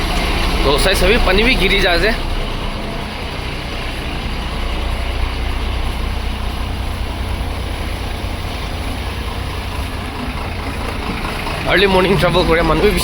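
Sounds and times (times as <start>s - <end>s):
road and traffic noise: 0.0s - 13.0s
vehicle engine rumbling: 0.0s - 13.0s.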